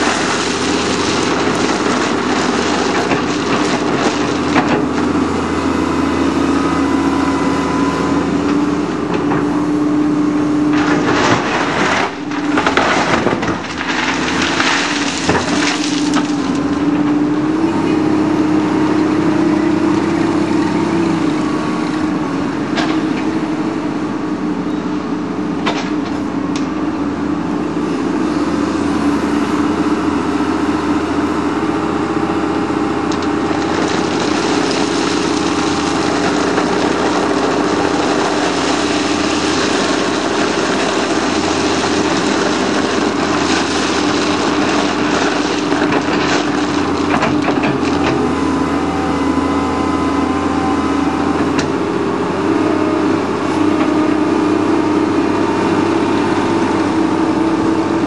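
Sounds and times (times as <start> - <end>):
diesel excavator engine running: 0.0 - 58.0.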